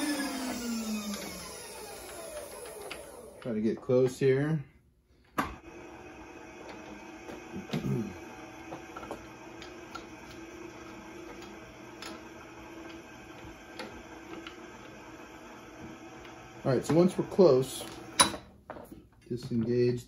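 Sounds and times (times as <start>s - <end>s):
power feed motor hum: 0.0s - 4.0s, 5.4s - 18.4s.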